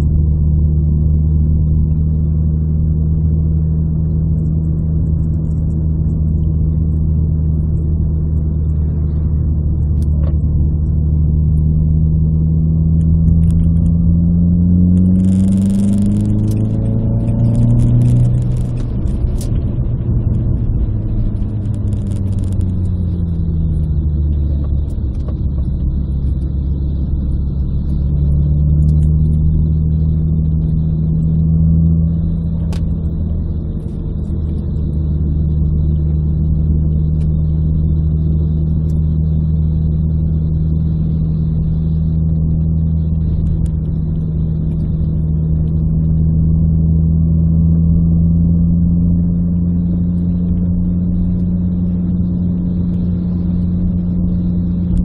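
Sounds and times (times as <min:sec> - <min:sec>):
car engine from inside cabin: 0:00.0 - 0:55.0
road rumble: 0:00.0 - 0:55.0.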